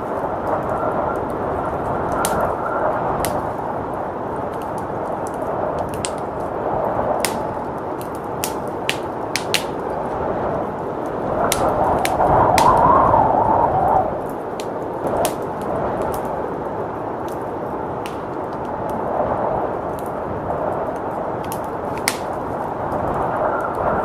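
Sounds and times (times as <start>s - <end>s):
rushing blizzard wind: 0.0s - 24.0s
wood fire crackling: 0.0s - 24.0s.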